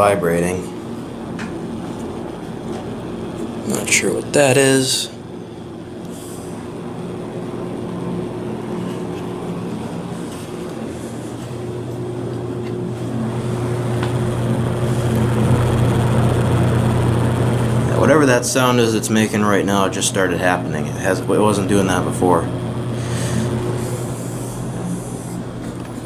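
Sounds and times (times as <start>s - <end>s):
box fan running: 0.0s - 26.0s
fan vibration: 0.0s - 26.0s.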